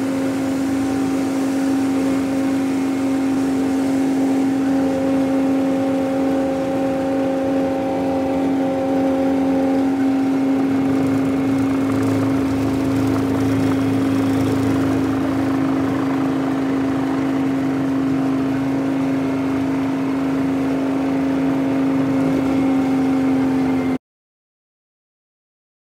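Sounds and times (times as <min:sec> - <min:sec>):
helicopter cabin drone: 0:00.0 - 0:24.0
higher tone in drone: 0:00.0 - 0:24.0.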